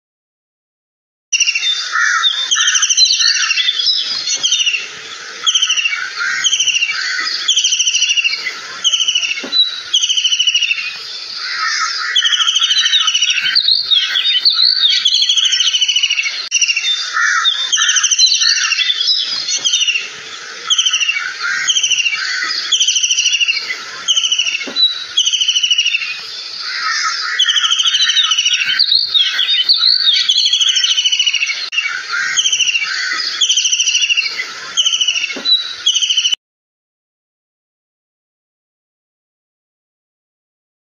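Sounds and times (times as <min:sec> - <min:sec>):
kingfisher calls: 0:01.4 - 0:36.4.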